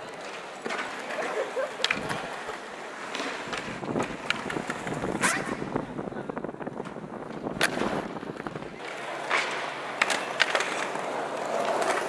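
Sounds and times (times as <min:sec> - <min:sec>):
skateboard clacks: 0:00.0 - 0:05.9, 0:06.6 - 0:12.0
skateboard wheels rolling on stone: 0:00.0 - 0:12.0.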